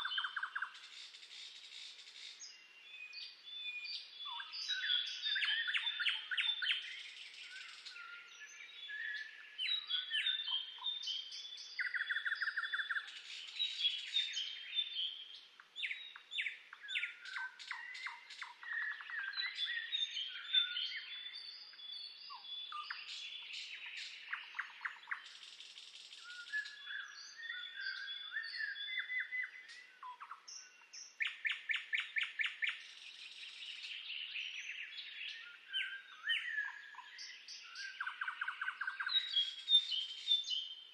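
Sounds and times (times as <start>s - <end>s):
songbirds singing and calling: 0.0s - 40.9s.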